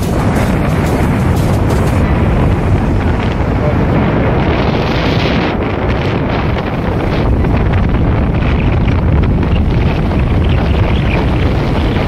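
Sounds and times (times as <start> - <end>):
vehicle rumbling on road: 0.0 - 12.0
wind buffeting microphone: 0.0 - 12.0.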